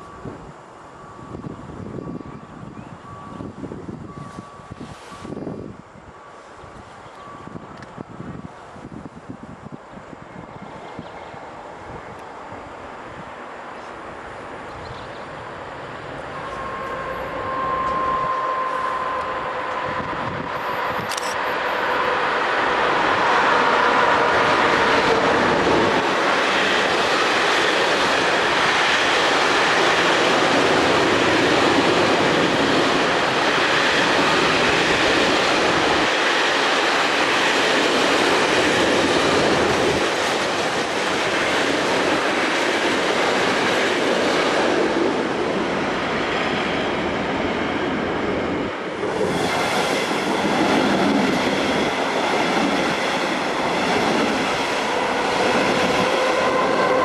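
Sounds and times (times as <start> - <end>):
freight train passing: 0.0 - 57.0
passenger train passing: 0.0 - 57.0.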